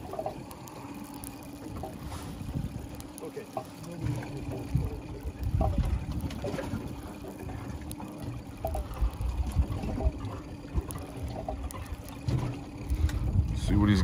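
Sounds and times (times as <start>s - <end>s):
water lapping against metal hull: 0.0s - 14.0s.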